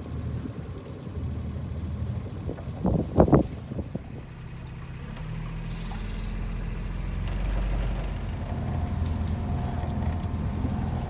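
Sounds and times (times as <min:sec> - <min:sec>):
boat engine rumbling: 0:00.0 - 0:11.0
water rushing past hull: 0:00.0 - 0:11.0.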